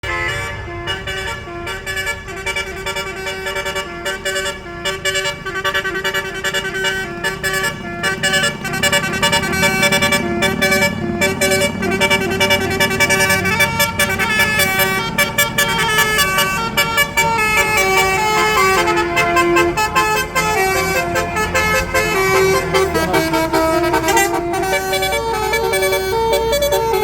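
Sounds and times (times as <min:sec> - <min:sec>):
multi-note bus air horn melody: 0:00.0 - 0:27.0.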